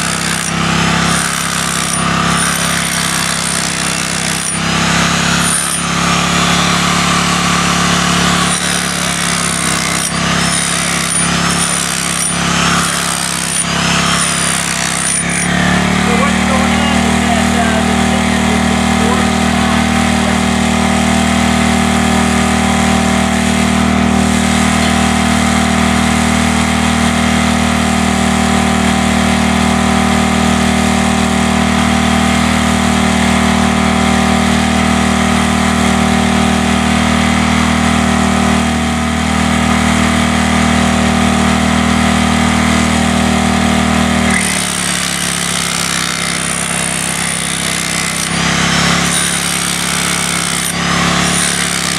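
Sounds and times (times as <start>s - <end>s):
hammer drill hammering into concrete: 0.0s - 51.9s.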